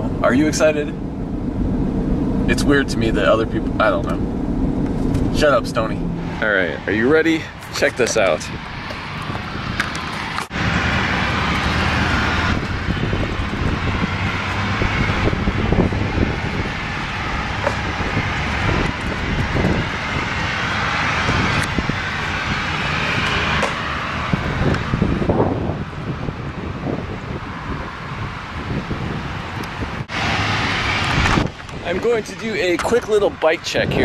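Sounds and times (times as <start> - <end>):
low rumble: 0.0 - 28.3
steady rushing noise: 0.0 - 34.0.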